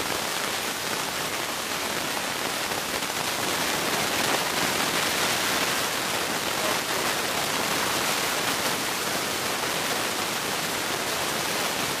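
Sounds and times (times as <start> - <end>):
steady even hiss: 0.0 - 12.0.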